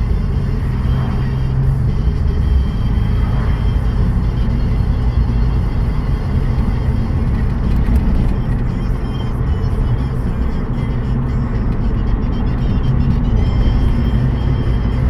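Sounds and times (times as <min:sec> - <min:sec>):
road noise: 0:00.0 - 0:15.0
truck engine and exhaust rumble: 0:00.0 - 0:15.0.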